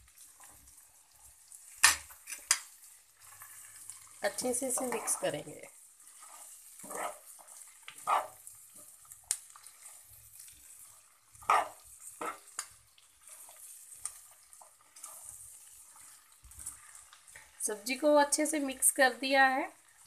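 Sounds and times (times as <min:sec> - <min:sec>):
spatula scraping frying pan: 0:00.0 - 0:17.7
faint steady sizzle: 0:00.0 - 0:20.0.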